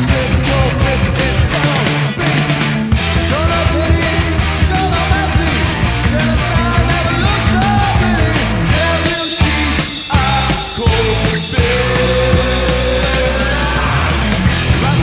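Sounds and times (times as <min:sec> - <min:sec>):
bass guitar: 0:00.0 - 0:15.0
distorted electric guitars: 0:00.0 - 0:15.0
fast drums: 0:00.0 - 0:15.0.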